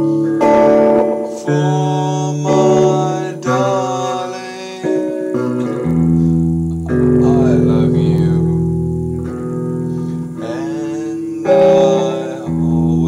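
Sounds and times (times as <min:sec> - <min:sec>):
man singing: 0:00.0 - 0:06.3, 0:07.1 - 0:08.6, 0:10.0 - 0:13.0
acoustic guitar strumming: 0:00.0 - 0:13.0.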